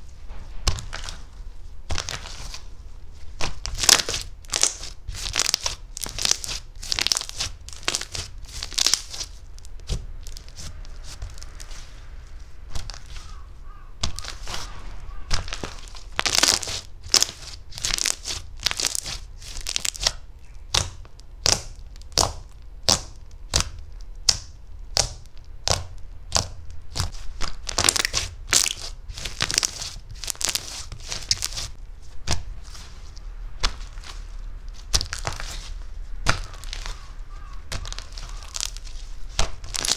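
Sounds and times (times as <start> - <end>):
slime squished by hand: 3.4 - 11.9, 14.0 - 39.9.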